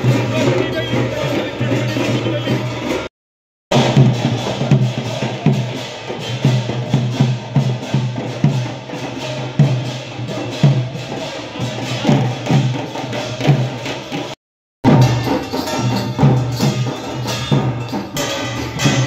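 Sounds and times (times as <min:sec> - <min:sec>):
heavy drum beat: 0:00.0 - 0:03.1, 0:03.7 - 0:19.0
high percussion clatter: 0:00.0 - 0:03.1, 0:03.7 - 0:19.0.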